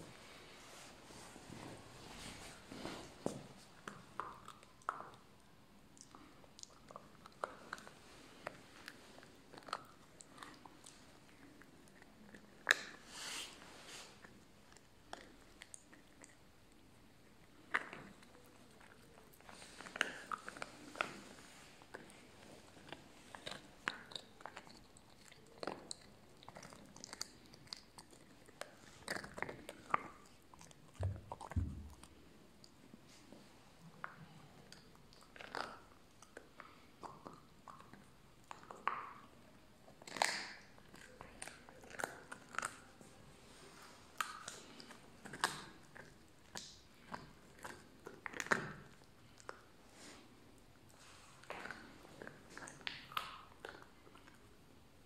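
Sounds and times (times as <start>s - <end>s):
puppy chewing bone: 3.2s - 13.1s, 14.1s - 32.9s, 34.0s - 54.5s.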